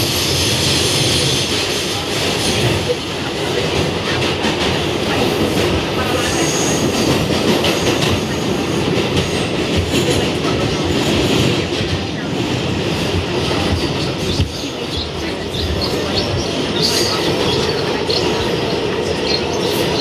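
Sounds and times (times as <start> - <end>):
subway car running in tunnel: 0.0 - 20.0.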